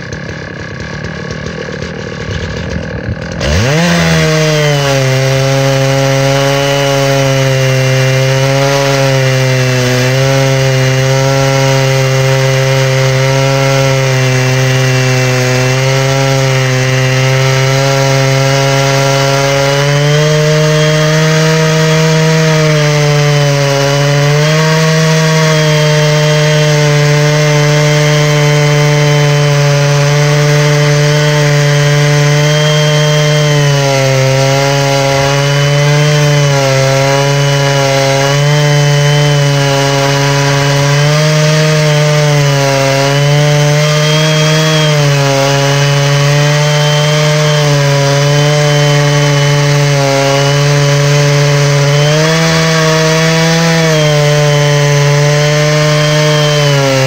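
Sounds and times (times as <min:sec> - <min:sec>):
chainsaw cutting wood at full throttle: 0:00.0 - 0:57.0.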